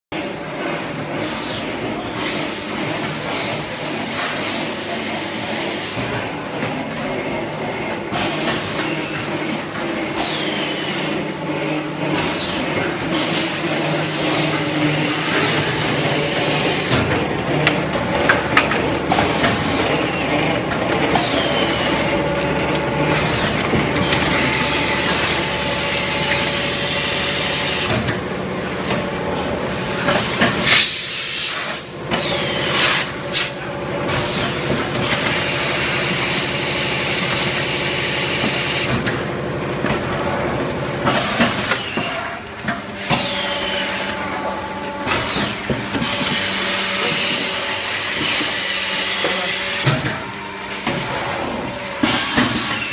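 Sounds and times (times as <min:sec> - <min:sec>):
machinery running: 0:00.2 - 0:52.9.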